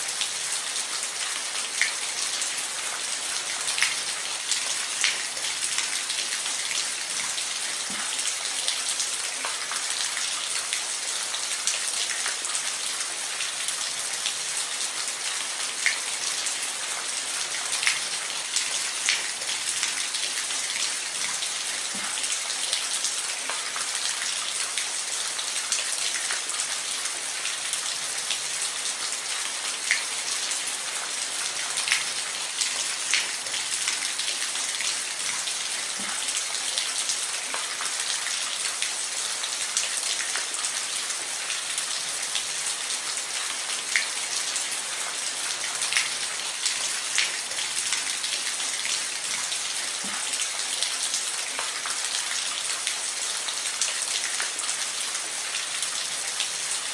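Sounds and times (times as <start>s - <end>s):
rain on a roof: 0.0s - 56.9s.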